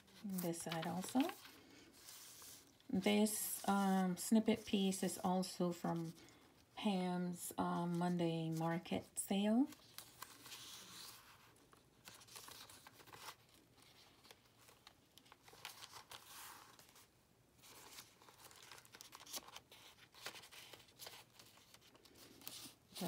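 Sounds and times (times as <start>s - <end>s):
paper pages rustling: 0.0s - 6.6s, 9.6s - 23.0s.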